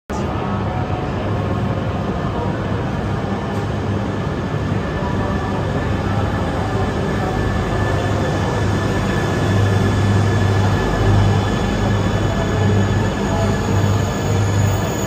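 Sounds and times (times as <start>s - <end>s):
train low rumble: 0.1s - 15.0s.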